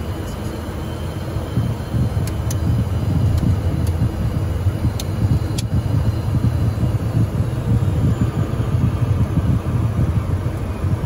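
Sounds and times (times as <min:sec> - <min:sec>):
airplane engines and wheels rumbling: 0:00.0 - 0:11.0.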